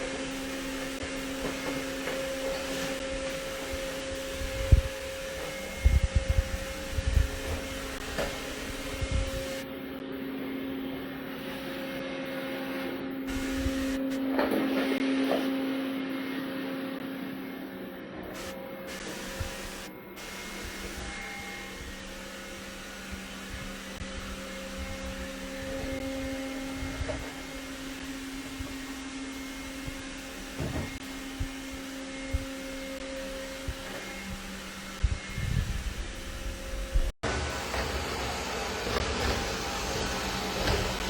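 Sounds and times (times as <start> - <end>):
robot vacuum whirring: 0.1 - 17.5, 18.2 - 41.0.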